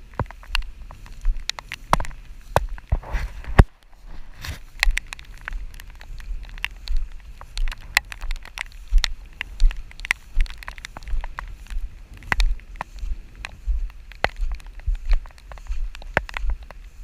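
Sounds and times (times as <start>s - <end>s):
raindrops ticking: 0.0s - 17.0s
wind buffeting microphone: 0.0s - 17.0s.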